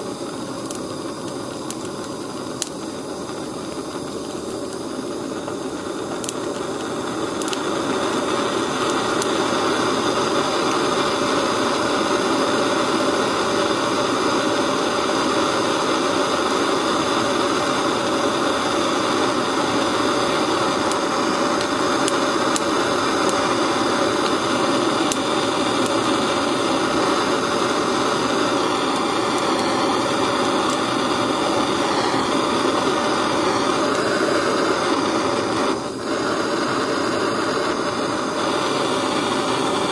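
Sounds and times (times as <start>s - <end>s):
blow torch flame hissing: 0.0s - 39.9s.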